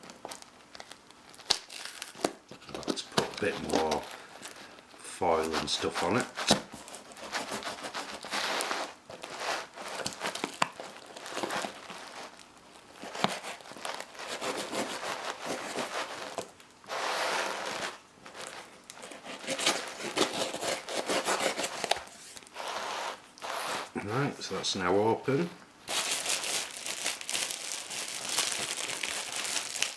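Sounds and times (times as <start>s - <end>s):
foil and paper packaging tearing: 0.0s - 24.0s, 25.9s - 29.9s.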